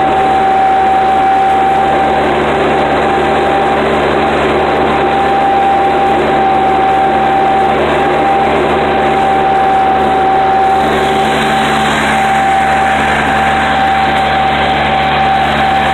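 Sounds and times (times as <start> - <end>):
high whine: 0.0 - 15.9
tractor engine under load: 0.0 - 15.9.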